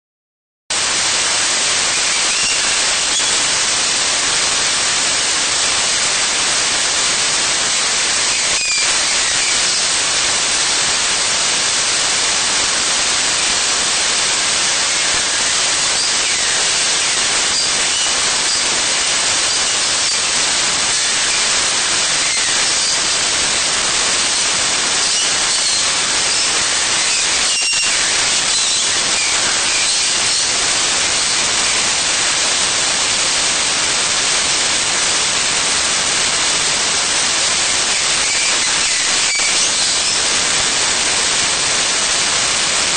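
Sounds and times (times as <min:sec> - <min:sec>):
static-like hiss: 0:00.7 - 0:42.9.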